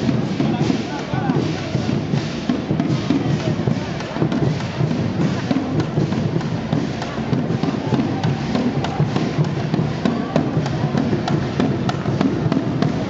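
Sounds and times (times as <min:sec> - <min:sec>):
drum roll beaten with sticks: 0:00.0 - 0:13.0.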